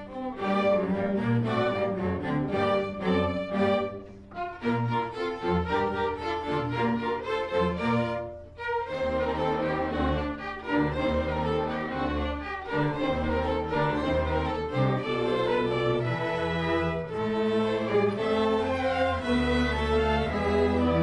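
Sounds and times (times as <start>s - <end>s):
string orchestra playing: 0.0s - 21.0s.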